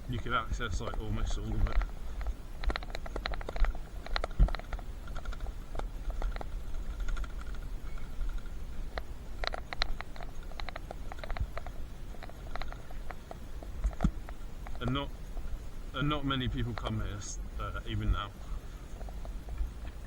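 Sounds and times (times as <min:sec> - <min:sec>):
bicycle clicks and ticks: 0:00.0 - 0:17.2
bicycle rumbling on rough track: 0:00.0 - 0:20.0.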